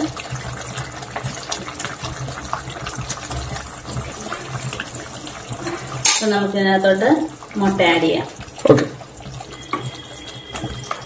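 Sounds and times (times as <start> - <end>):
gravy bubbling and popping: 0.0 - 11.0.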